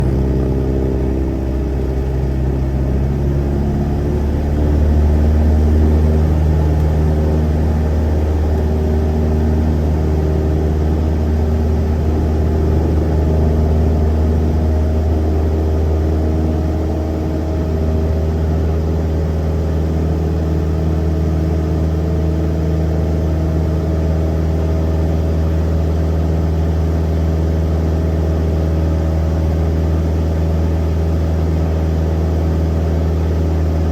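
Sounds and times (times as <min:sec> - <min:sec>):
light aircraft engine drone: 0:00.0 - 0:33.9.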